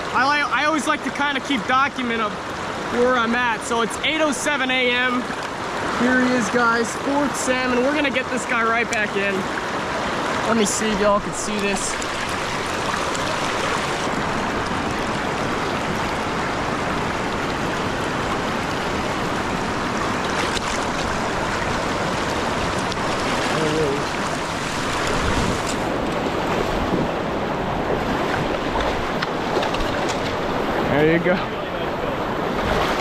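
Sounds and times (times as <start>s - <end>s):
river current rushing: 0.0s - 33.0s.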